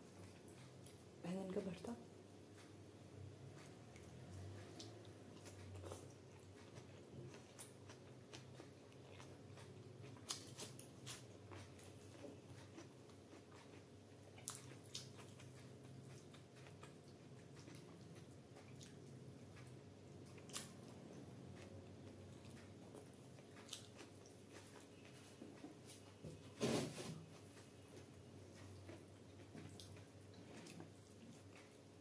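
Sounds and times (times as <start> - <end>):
person chewing soft food: 0.0 - 1.2, 2.2 - 32.0.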